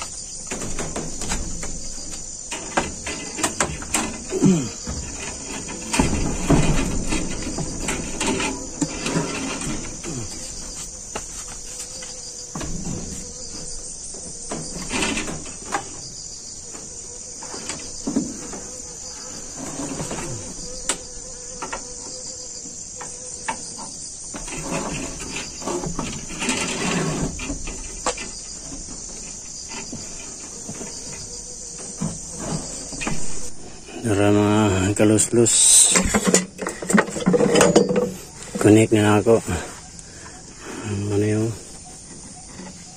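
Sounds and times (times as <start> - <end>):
insects chirring: 0.0 - 42.9.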